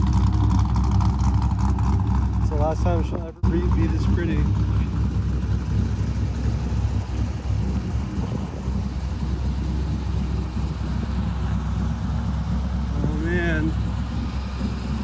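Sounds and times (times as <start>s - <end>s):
car engine idling choppily: 0.0s - 15.0s.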